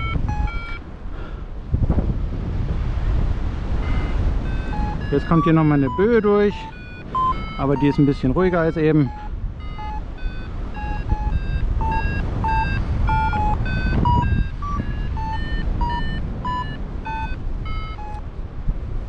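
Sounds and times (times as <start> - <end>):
variometer beeping: 0.0 - 0.8, 3.8 - 18.3
wind rumbling on microphone: 0.0 - 19.0.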